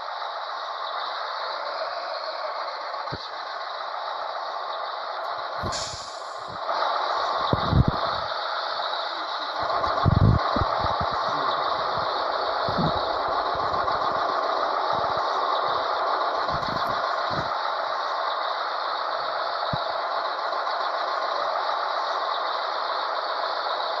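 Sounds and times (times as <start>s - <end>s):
truck road and wind noise: 0.0s - 24.0s.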